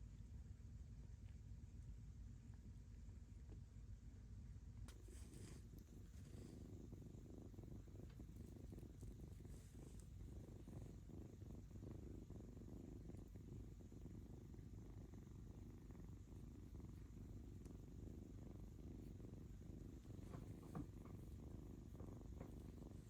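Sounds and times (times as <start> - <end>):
kitten purring: 0.9 - 23.0.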